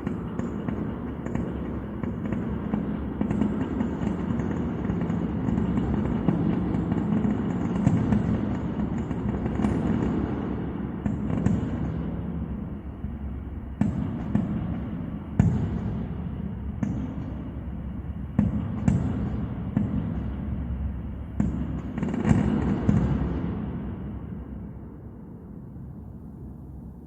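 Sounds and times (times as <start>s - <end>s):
rumble and crackle: 0.0s - 27.0s.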